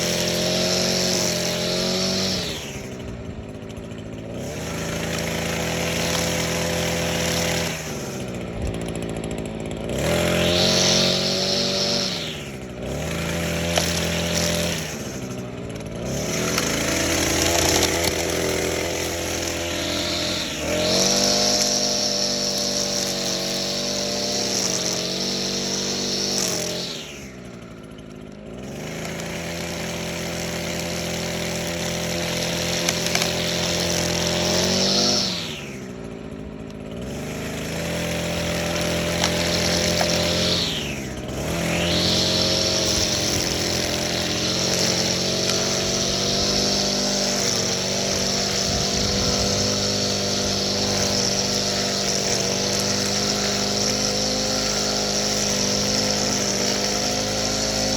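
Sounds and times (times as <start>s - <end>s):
string trimmer engine revving: 0.0s - 57.9s.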